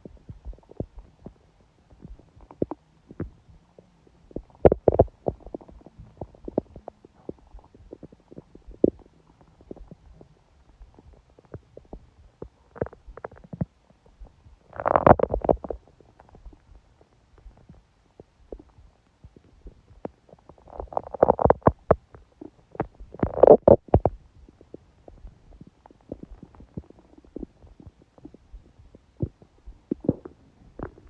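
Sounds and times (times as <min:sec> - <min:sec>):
stomach growling: 0:00.0 - 0:31.0
gurgles and pops: 0:00.1 - 0:03.5, 0:04.3 - 0:10.2, 0:10.8 - 0:16.8, 0:18.5 - 0:31.0.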